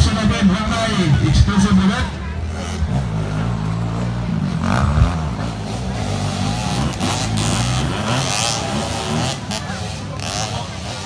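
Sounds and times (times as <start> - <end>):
motocross engines revving: 0.0 - 11.0.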